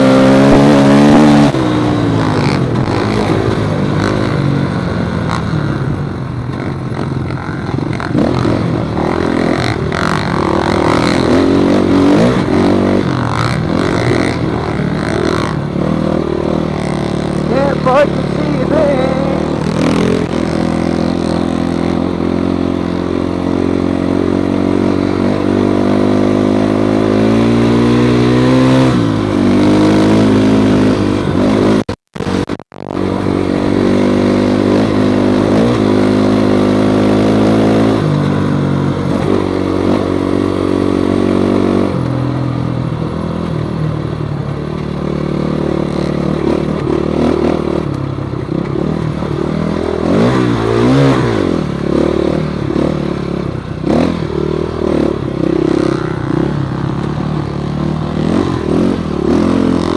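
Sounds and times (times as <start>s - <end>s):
dirt bike engine revving: 0.0s - 43.3s, 44.6s - 59.9s.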